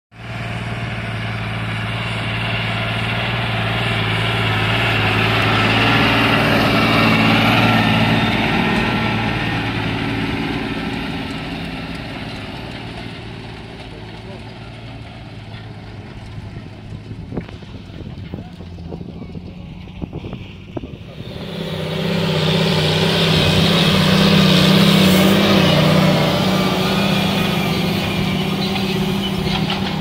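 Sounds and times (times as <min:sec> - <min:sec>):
tractor diesel engine under load: 0:00.1 - 0:30.0.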